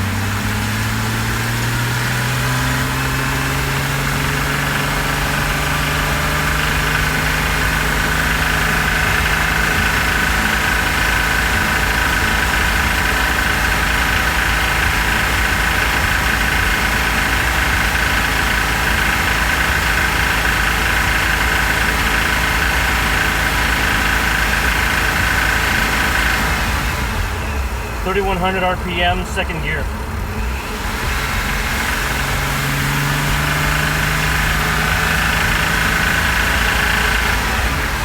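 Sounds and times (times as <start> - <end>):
car engine running: 0.0 - 38.0
engine knocking: 0.0 - 38.0.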